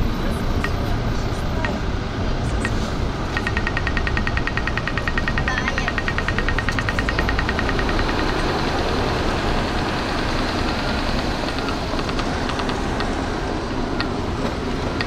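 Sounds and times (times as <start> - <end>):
city street traffic: 0.0 - 15.0
crossing signal ticking: 0.0 - 15.0.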